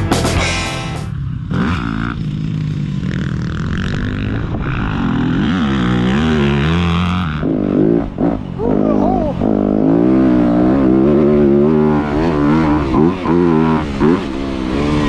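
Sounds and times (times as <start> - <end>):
dirt bike engine revving: 0.3 - 15.0.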